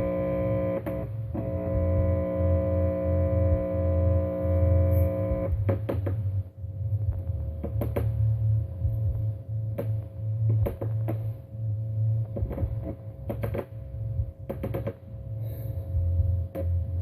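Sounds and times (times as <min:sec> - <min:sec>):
low electrical buzz: 0:00.0 - 0:17.0.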